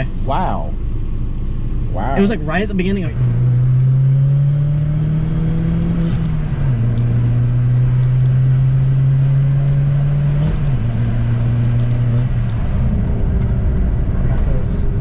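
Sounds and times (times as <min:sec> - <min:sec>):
car engine drone in cabin: 0:00.0 - 0:15.0.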